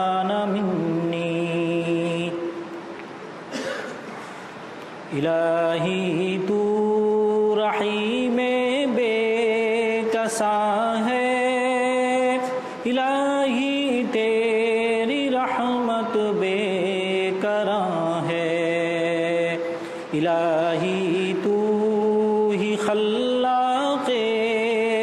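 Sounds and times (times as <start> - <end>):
man singing with vibrato: 0.0 - 2.9, 5.0 - 25.0.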